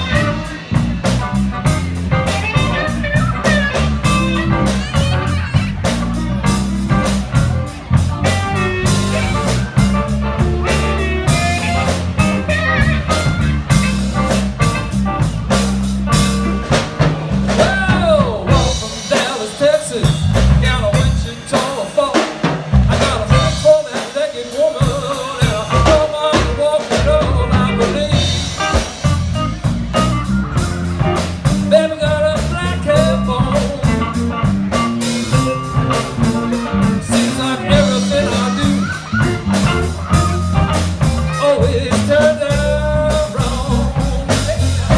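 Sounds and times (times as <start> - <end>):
drum kit: 0.0 - 44.9
electric bass: 0.0 - 44.9
electric guitars: 0.0 - 44.9.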